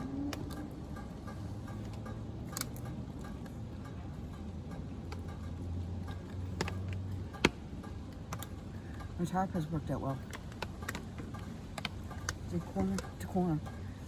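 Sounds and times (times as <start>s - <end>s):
raindrop taps: 0.3s - 13.9s.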